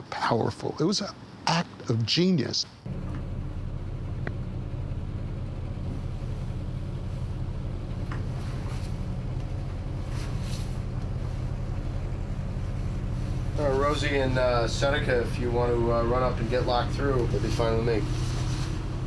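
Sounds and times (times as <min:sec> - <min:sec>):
boat engine drone: 0:02.9 - 0:19.0.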